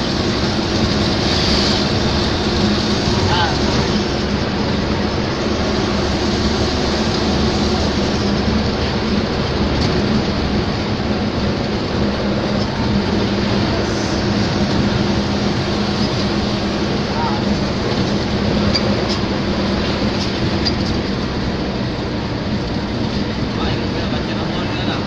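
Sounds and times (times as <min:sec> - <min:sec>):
road noise: 0:00.0 - 0:25.0
vehicle engine drone: 0:00.0 - 0:25.0.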